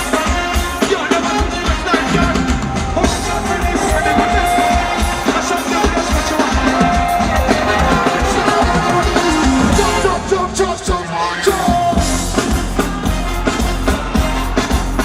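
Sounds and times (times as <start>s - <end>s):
reggae band with vocals: 0.0s - 15.0s.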